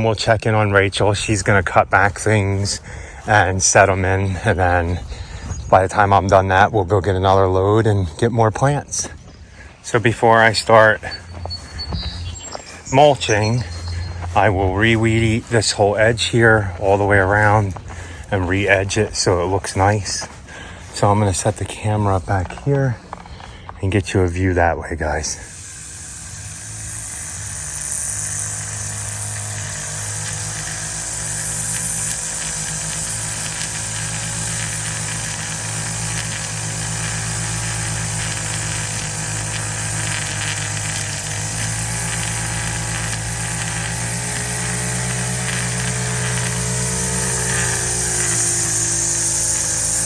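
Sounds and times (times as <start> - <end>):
string trimmer buzzing: 0.0 - 50.0.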